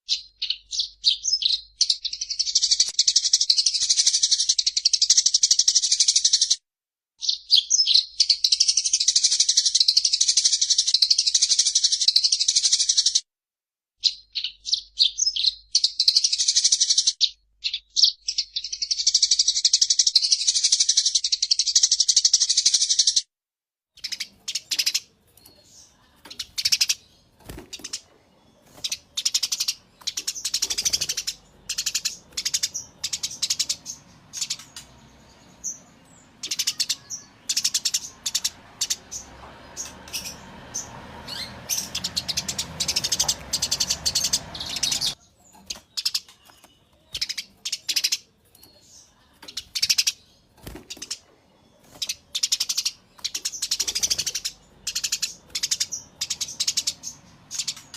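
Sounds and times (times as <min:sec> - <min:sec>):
sparrows chirping: 0:00.0 - 0:06.6, 0:07.2 - 0:13.2, 0:14.0 - 0:23.2, 0:24.0 - 0:57.9.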